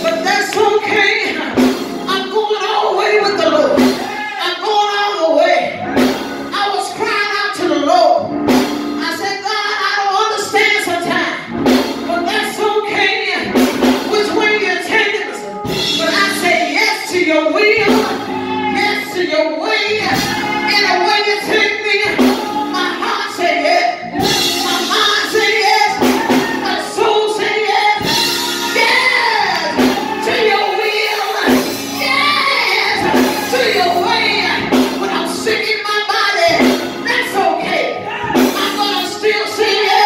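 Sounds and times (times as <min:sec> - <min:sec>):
instrumental accompaniment: 0:00.0 - 0:04.8, 0:05.6 - 0:09.5, 0:10.6 - 0:40.0
woman singing gospel song: 0:00.0 - 0:05.6, 0:09.0 - 0:40.0.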